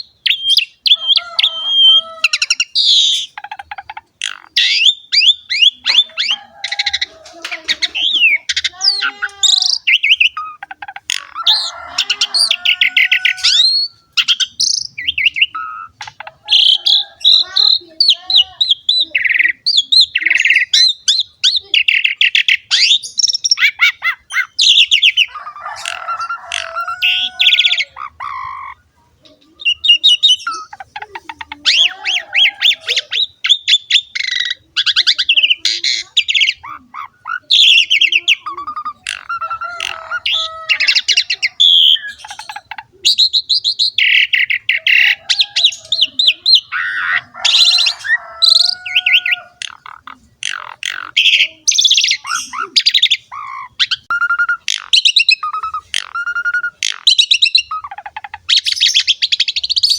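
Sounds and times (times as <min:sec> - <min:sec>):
starling singing: 0:00.0 - 0:59.9.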